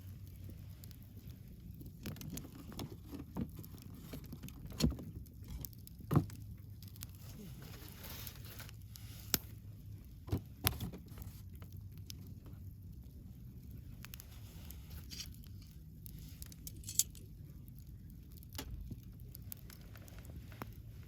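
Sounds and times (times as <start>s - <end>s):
fire popping: 0.0s - 21.0s
low steady rumble: 0.0s - 21.0s
wood fire crackling: 0.0s - 21.0s.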